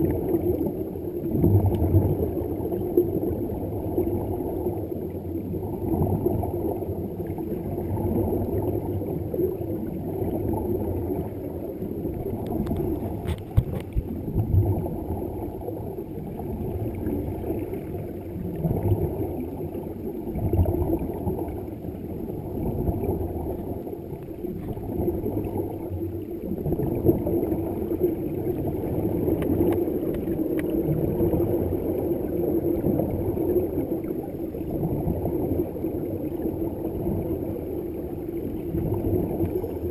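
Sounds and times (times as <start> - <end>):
underwater bubbling rumble: 0.0 - 39.9.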